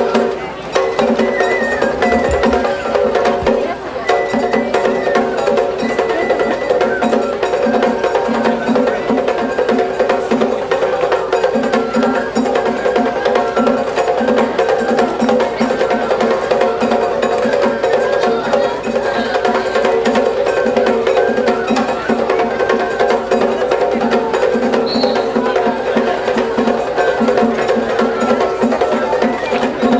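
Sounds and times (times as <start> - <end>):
percussion-led festival music: 0.0 - 29.9.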